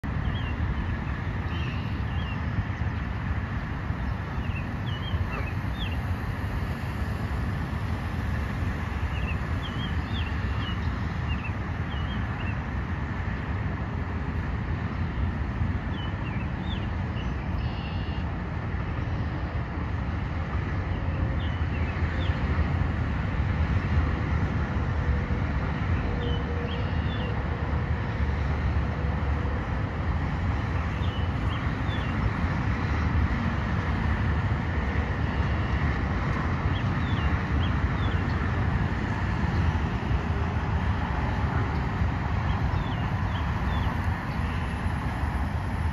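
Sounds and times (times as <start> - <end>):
highway traffic: 0.0 - 45.9.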